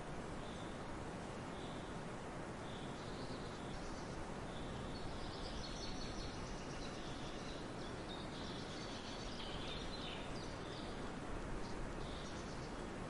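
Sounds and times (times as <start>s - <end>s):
wind rustling through field: 0.0s - 13.0s.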